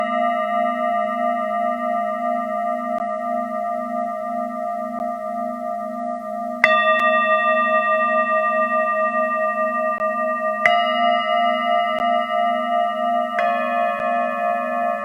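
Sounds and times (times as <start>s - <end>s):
singing bowl struck: 0.0s - 15.0s
singing bowls ringing: 0.0s - 15.0s
steady low tone: 0.0s - 15.0s.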